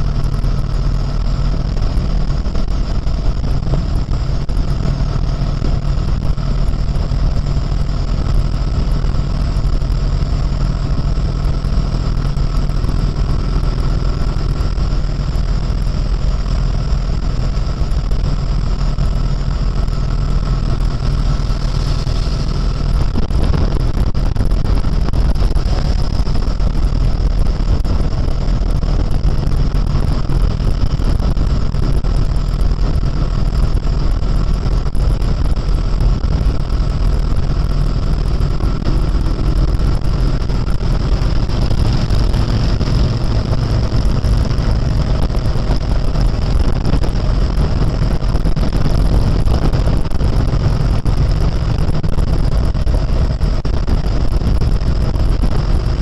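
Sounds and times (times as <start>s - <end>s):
motorcycle engine cruising: 0.0s - 56.0s
road noise: 0.0s - 56.0s
wind noise: 0.0s - 56.0s.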